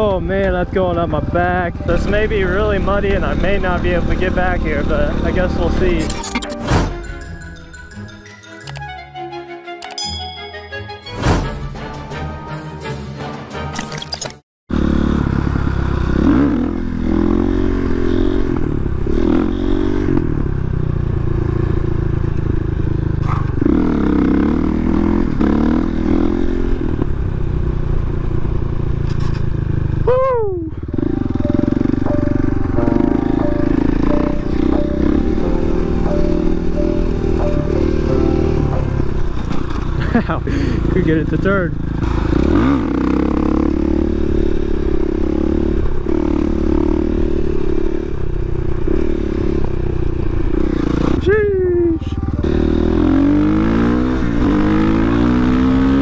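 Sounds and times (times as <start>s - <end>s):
motorcycle engine revving: 0.0s - 6.1s, 14.7s - 56.0s.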